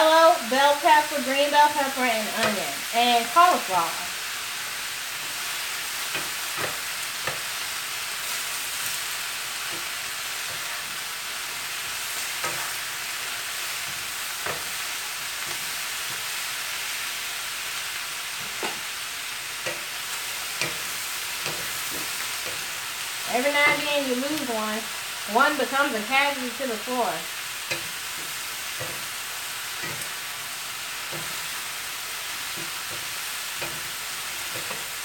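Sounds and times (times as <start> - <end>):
vegetables sizzling in skillet: 0.0 - 35.0.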